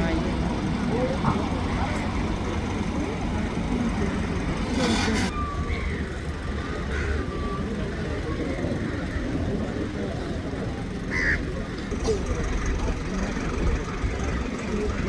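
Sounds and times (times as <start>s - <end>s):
low rumble of motor vehicles: 0.0s - 15.0s.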